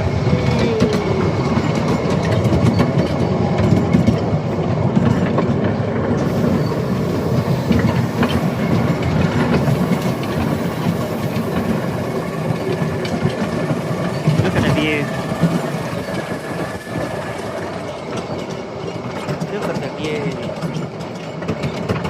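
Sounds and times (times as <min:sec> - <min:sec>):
miniature train wheel rumble: 0:00.0 - 0:22.0
wheels clicking over rail joints: 0:00.0 - 0:22.0.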